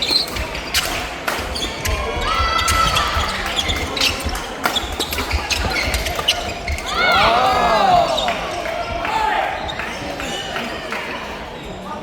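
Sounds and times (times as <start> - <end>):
shoes squeaking on floor: 0.0 - 10.5.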